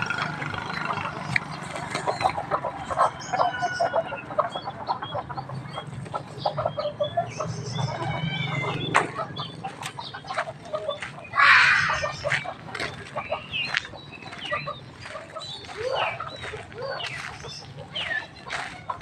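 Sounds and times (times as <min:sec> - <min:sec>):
chickens clucking: 0:00.0 - 0:19.0
high chirping calls: 0:00.0 - 0:19.0.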